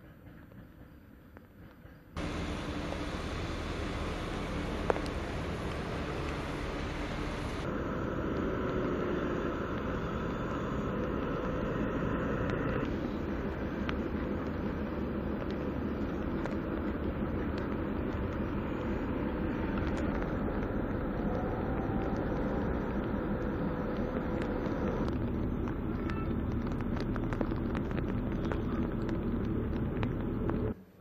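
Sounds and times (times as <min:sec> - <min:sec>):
railway yard rumble: 0:00.0 - 0:30.8
faint engine hum: 0:02.2 - 0:31.0.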